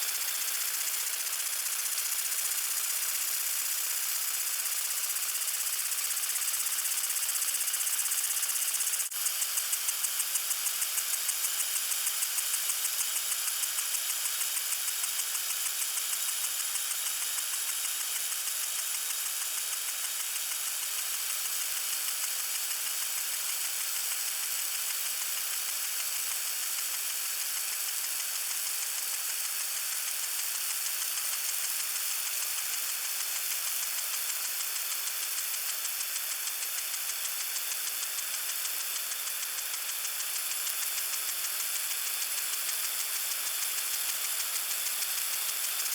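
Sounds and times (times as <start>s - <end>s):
lawn sprinkler ticking and hissing: 0.0s - 45.9s.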